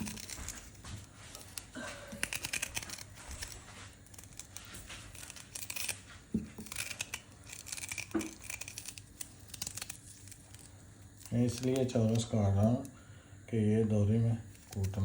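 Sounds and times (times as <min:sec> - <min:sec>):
knife slicing and scraping: 0:00.0 - 0:12.4.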